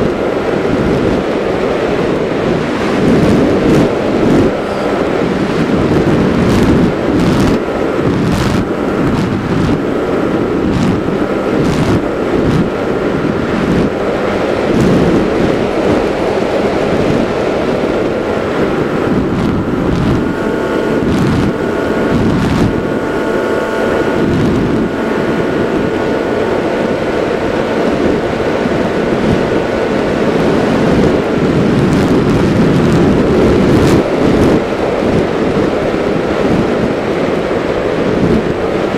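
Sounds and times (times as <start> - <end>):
motor and propeller whine: 0.0 - 38.9
wind buffeting microphone: 0.0 - 38.9.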